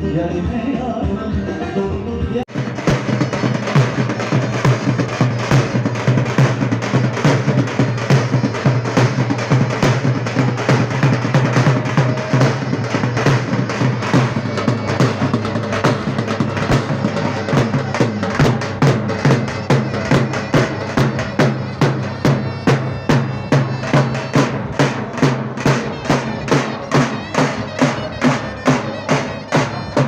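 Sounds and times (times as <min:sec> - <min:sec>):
bass drum beaten in rhythm: 0:00.0 - 0:30.0.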